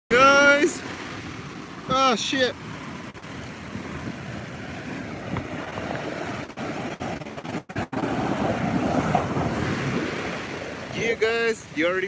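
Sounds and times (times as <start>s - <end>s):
ocean surf breaking: 0.1s - 12.0s
wind buffeting microphone: 0.2s - 12.0s.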